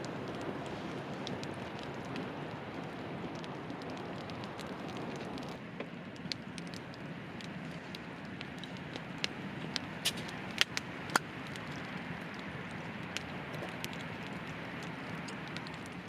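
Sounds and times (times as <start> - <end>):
campfire hissing: 0.0 - 16.0
campfire pops and snaps: 0.0 - 16.0.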